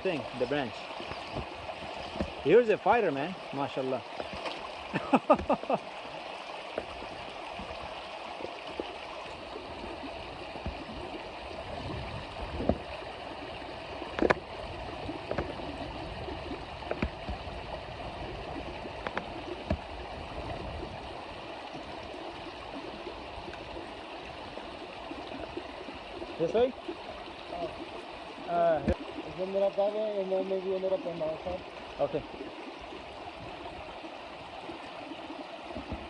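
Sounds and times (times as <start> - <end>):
creek water running over rocks: 0.0 - 36.0.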